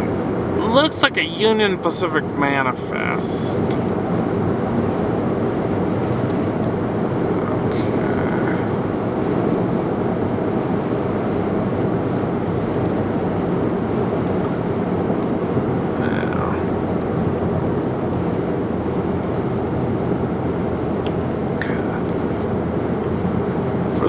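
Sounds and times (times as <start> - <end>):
car road and wind rumble: 0.0 - 24.0.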